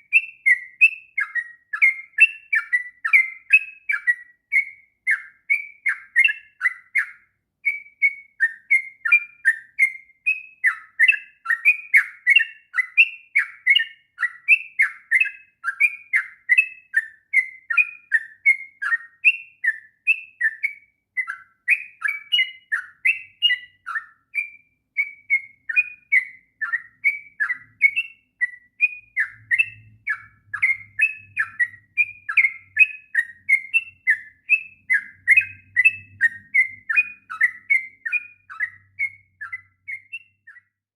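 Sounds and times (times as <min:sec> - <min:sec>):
bird singing whistled notes: 0:00.0 - 0:40.9.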